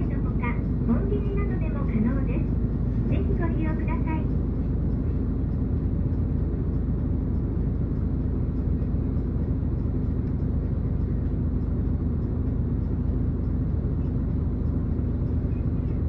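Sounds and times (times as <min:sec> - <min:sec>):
bus diesel engine droning: 0:00.0 - 0:16.0
road and cabin noise: 0:00.0 - 0:16.0.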